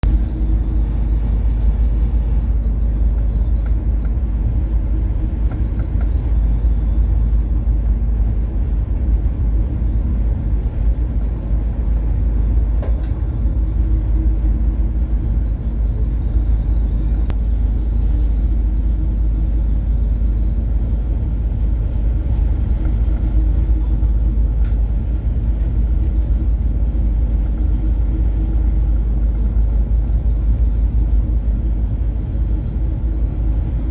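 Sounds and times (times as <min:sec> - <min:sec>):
ship engine deep rumble: 0:00.0 - 0:33.9.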